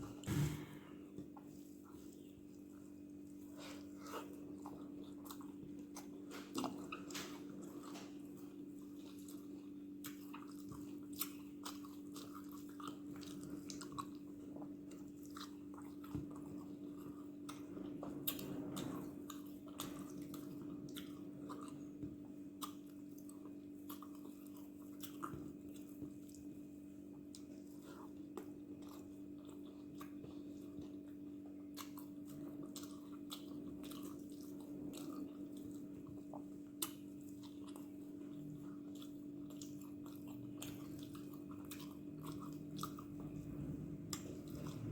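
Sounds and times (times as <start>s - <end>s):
steady low hum: 0.0s - 44.9s
wet chewing: 0.0s - 44.9s.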